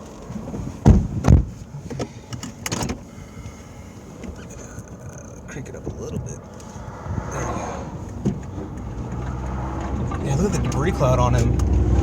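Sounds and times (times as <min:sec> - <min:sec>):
low steady background noise: 0:00.0 - 0:11.7.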